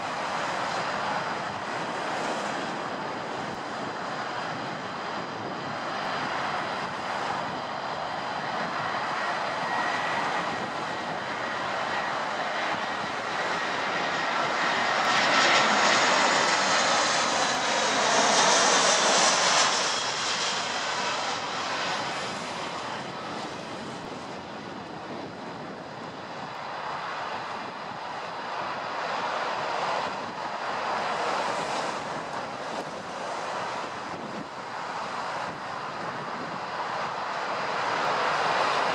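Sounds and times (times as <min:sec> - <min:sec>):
jet airliner passing overhead: 0:00.0 - 0:38.9.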